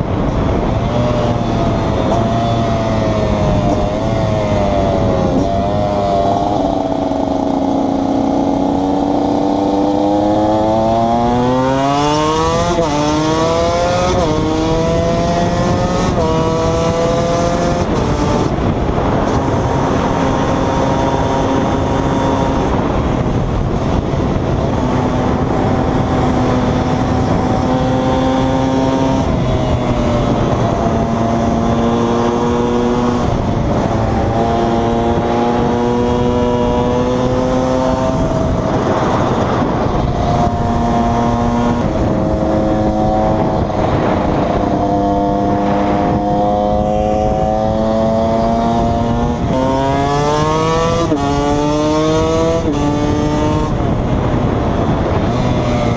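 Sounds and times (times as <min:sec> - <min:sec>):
two-stroke motorcycle engine revving: 0:00.0 - 0:55.9.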